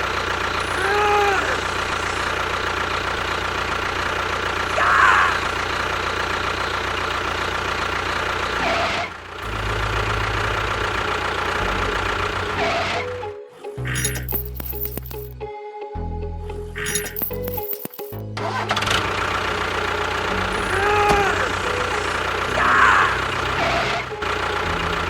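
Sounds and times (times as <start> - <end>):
vehicle engine running: 0.0 - 12.8, 16.8 - 25.0.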